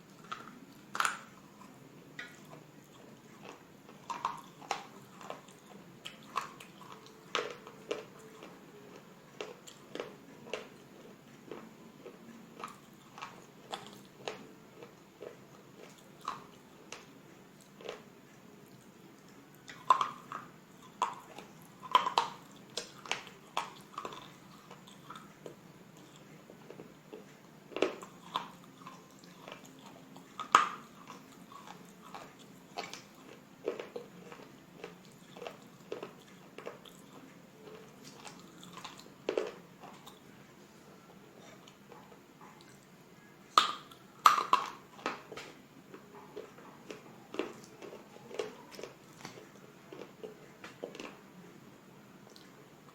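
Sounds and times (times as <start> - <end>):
quiet chewing: 0.0 - 52.9.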